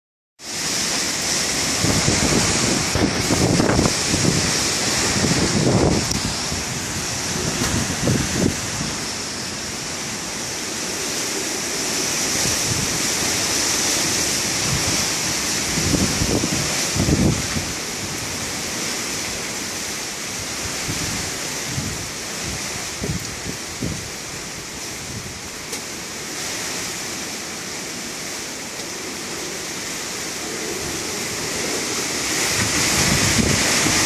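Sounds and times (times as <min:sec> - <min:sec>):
strong wind rushing: 0:00.6 - 0:25.5, 0:29.0 - 0:34.0
wind gusts buffeting microphone: 0:00.6 - 0:34.0.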